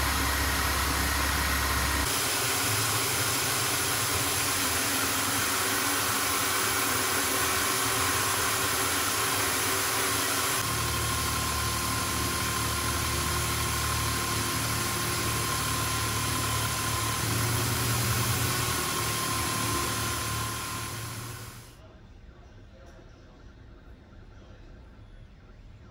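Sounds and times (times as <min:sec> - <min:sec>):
electric drill humming: 0:00.0 - 0:21.7.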